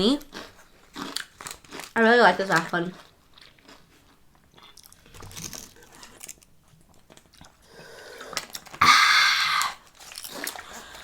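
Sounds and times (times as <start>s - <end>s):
chips being crunched and chewed: 0.1s - 7.6s, 8.3s - 11.0s.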